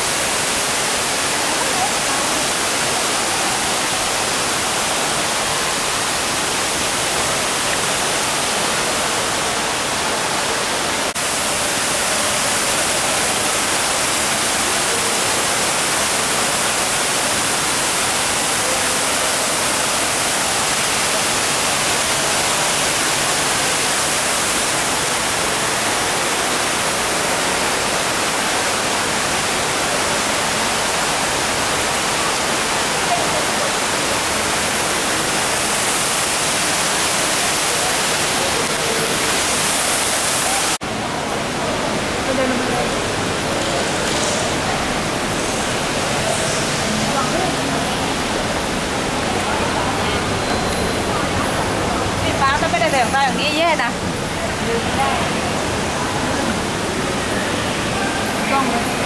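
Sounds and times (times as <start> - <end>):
rushing water hiss: 0.0 - 59.0.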